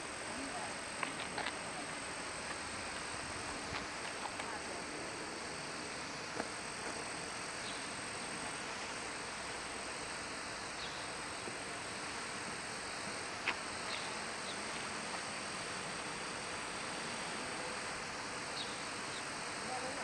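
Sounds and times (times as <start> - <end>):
smoke fountain hissing: 0.0 - 20.0
thin steady high tone: 0.0 - 20.0.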